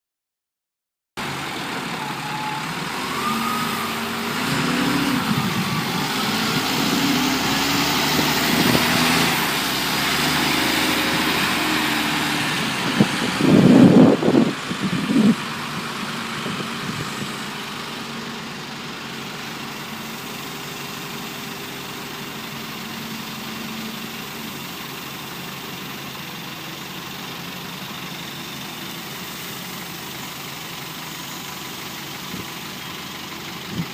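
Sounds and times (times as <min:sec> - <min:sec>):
wheel loader diesel engine: 0:01.2 - 0:33.9.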